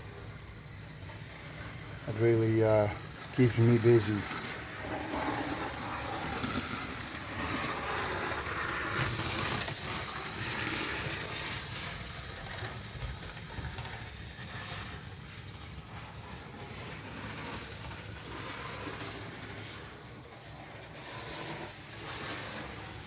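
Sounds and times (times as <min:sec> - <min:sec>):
model locomotive motor whirring: 0:00.0 - 0:23.0
wheels rolling on rails: 0:00.0 - 0:23.0.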